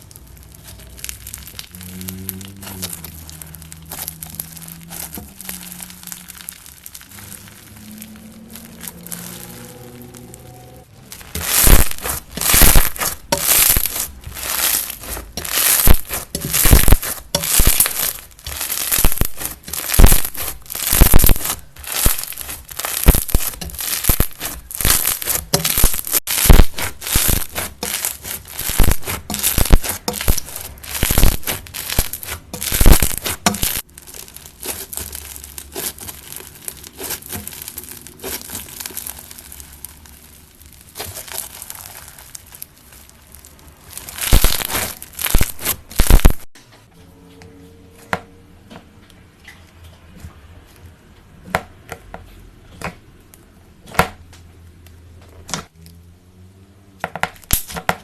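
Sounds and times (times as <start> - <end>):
slime crackling and popping: 0.0 - 46.6, 57.2 - 58.0.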